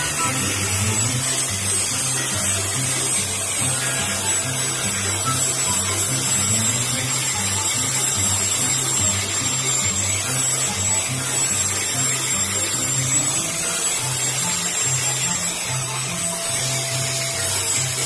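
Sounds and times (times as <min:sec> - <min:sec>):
angle grinder whining: 0:00.0 - 0:18.0
disc grinding wood: 0:00.0 - 0:18.0
music: 0:00.0 - 0:18.0.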